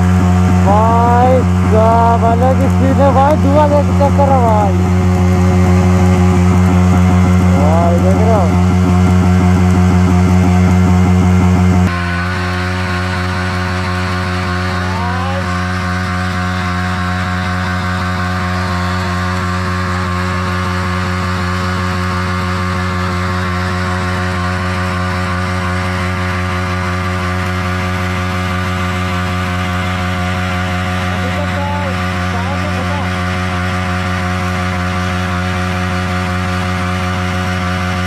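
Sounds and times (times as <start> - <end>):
motorcycle engine at high revs: 0.0 - 38.0
rear tyre spinning: 0.0 - 38.0.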